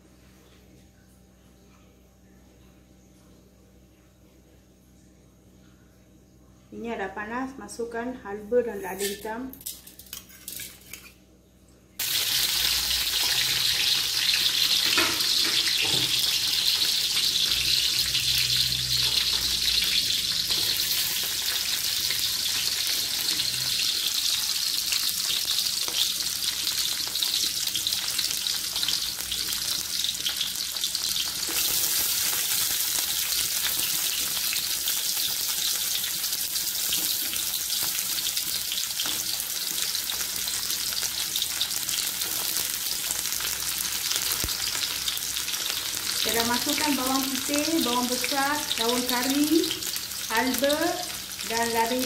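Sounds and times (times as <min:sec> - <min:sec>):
frying hiss in a wok: 0:08.6 - 0:11.1, 0:12.0 - 0:52.0.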